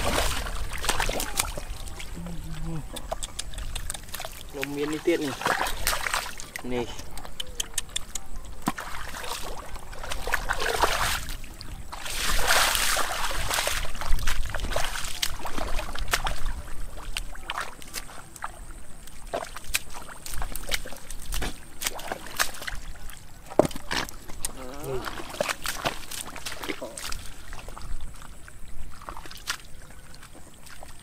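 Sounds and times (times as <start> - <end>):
muddy water sloshing: 0.0 - 31.0.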